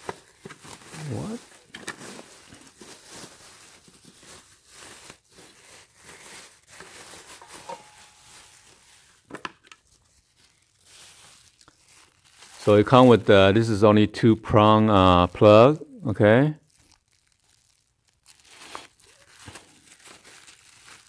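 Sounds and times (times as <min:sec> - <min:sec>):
plastic bag crinkling: 0:00.0 - 0:13.7, 0:16.5 - 0:21.0.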